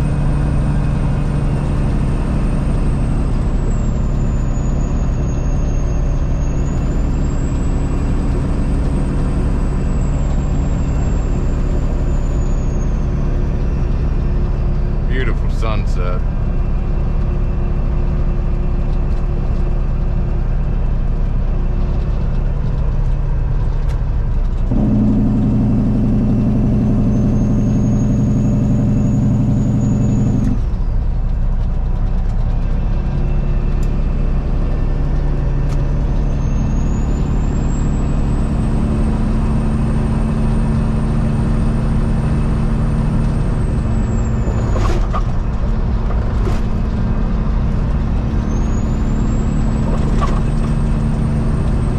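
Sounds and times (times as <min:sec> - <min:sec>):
truck diesel engine running: 0:00.0 - 0:51.9.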